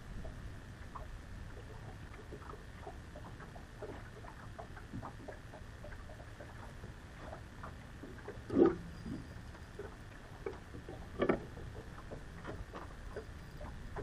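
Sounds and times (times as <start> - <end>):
waves lapping against boat hull: 0.0 - 14.0.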